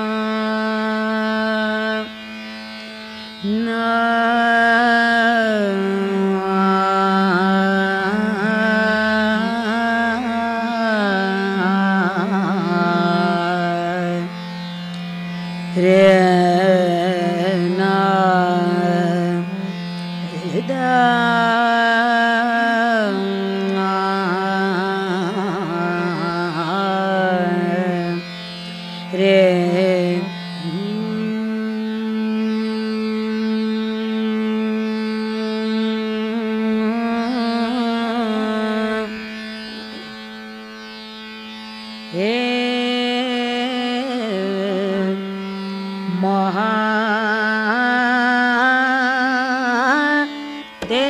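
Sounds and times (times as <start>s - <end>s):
woman singing classical vocal: 0.0s - 2.2s, 3.4s - 40.3s, 42.0s - 51.0s.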